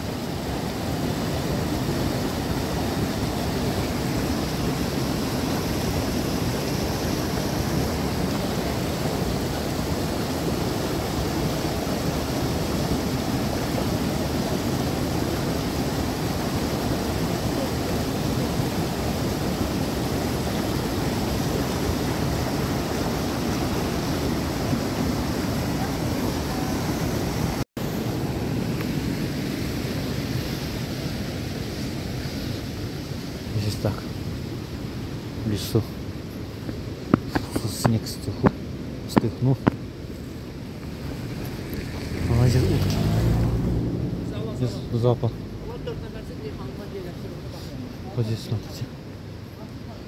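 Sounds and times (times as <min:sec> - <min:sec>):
river rushing: 0:00.0 - 0:50.0.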